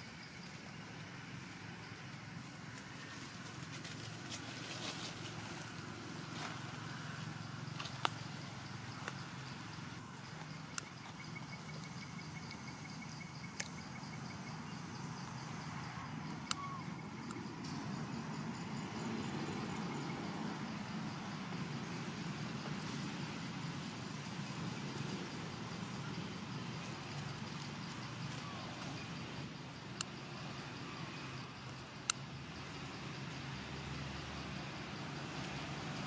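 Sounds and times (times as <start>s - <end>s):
insect trills: 0.0s - 36.0s.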